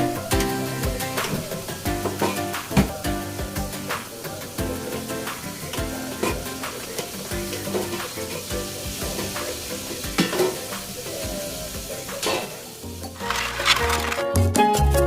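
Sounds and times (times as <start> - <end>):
latin-style music: 0.0 - 15.0.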